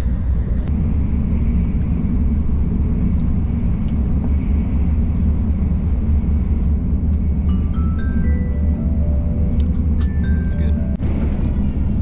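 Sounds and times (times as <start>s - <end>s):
train cabin rumble: 0.0s - 12.0s.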